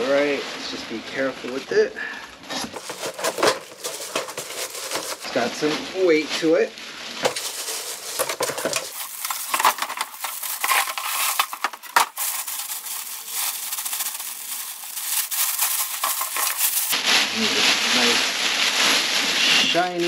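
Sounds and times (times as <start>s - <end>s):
plastic bag crinkling: 2.5s - 19.4s.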